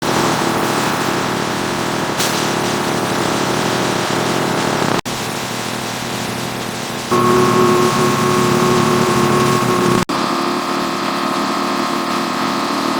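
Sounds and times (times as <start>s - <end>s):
factory machinery running: 0.0s - 12.9s.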